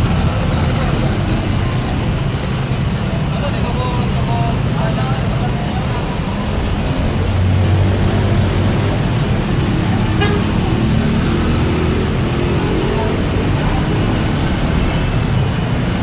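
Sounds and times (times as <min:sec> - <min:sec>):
passing motor vehicles: 0:00.0 - 0:16.0.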